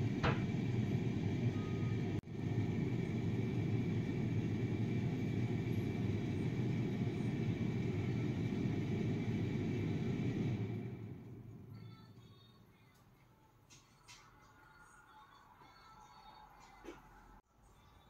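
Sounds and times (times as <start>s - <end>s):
faint high hum: 0.0s - 18.0s.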